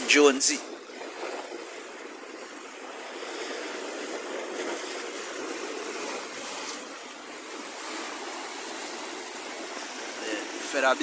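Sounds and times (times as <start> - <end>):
sea waves breaking on rocks: 0.0 - 11.0.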